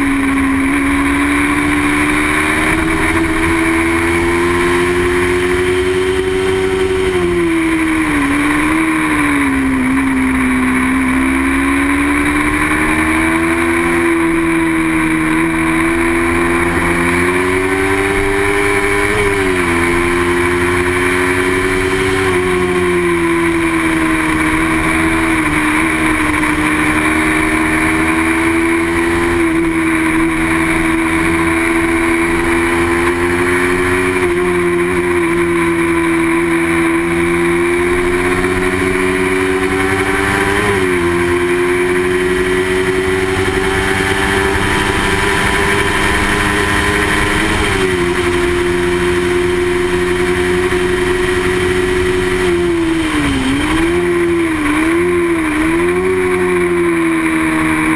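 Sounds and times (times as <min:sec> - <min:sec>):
motorcycle engine at high revs: 0:00.0 - 0:57.9.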